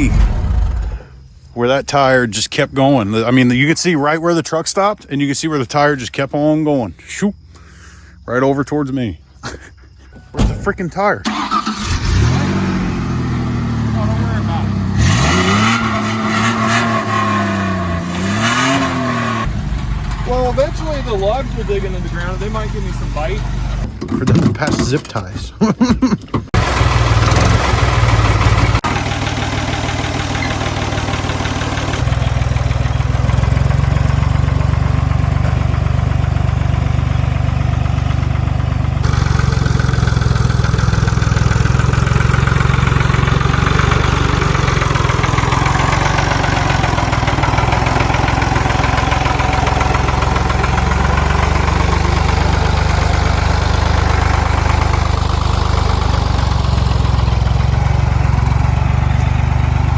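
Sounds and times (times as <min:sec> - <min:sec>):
truck engine idling: 0:00.0 - 0:08.2, 0:09.3 - 0:24.0, 0:26.3 - 0:59.9.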